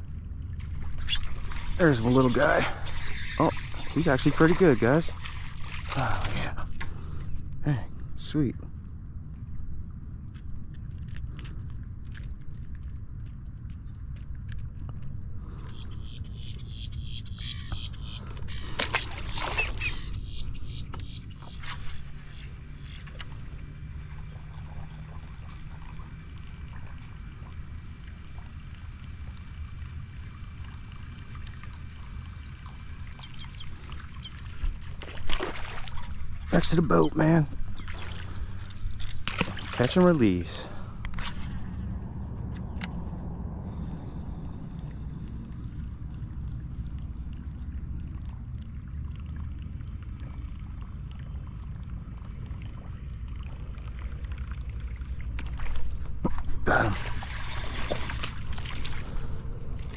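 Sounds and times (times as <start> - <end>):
steady low rumble: 0.0 - 59.9
fish thrashing and water splashing: 0.4 - 7.6, 9.2 - 16.7, 17.8 - 42.2, 45.2 - 59.9.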